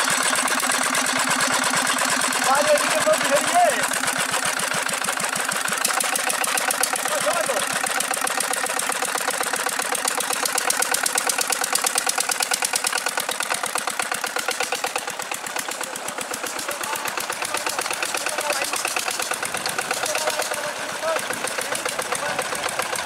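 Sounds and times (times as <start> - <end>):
diesel engine knocking steadily: 0.0 - 23.0.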